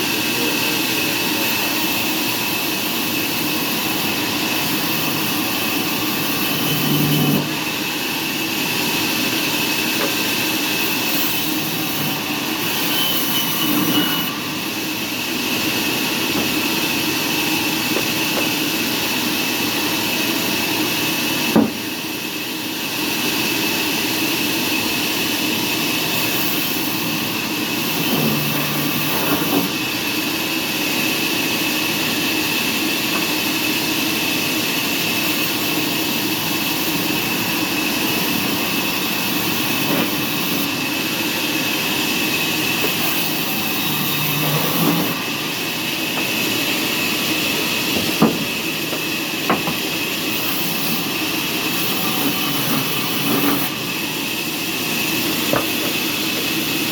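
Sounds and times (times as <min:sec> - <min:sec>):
sawmill machinery drone: 0:00.0 - 0:56.9.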